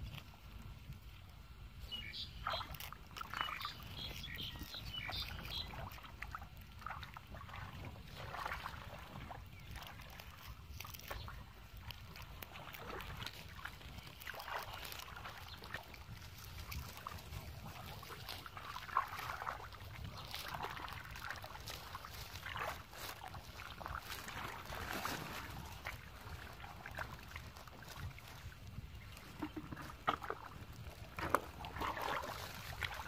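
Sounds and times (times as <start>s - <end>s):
hands sloshing in muddy water: 2.0s - 33.0s.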